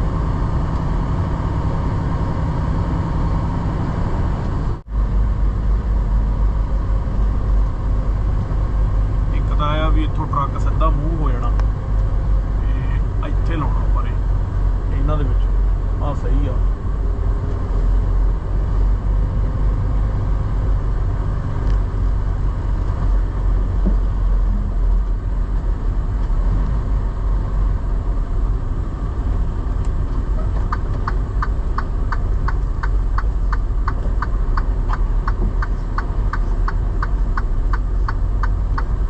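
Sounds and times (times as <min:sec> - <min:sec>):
diesel truck engine rumble: 0:00.0 - 0:39.0.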